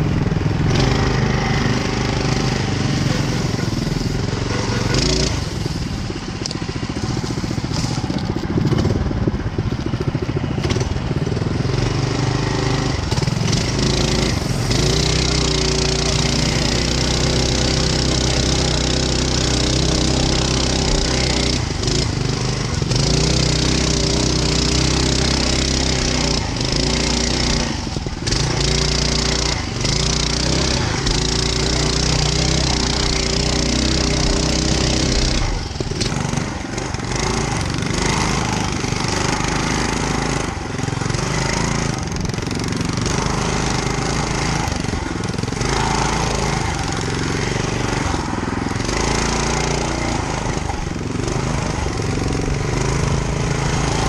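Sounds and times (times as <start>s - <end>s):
mini bike engine running: 0.0s - 54.0s.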